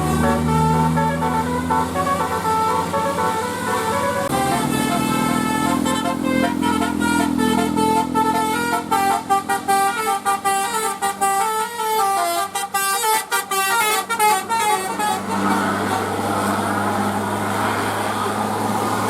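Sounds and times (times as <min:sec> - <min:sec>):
musical bus air horn playing tune: 0:00.0 - 0:17.9.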